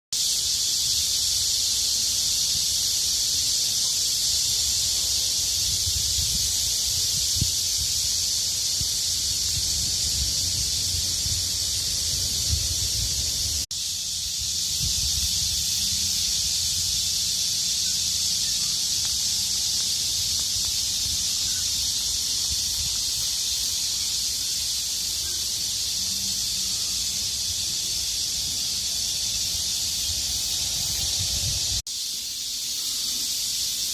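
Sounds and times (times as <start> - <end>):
cicadas droning: 0.2 - 33.9.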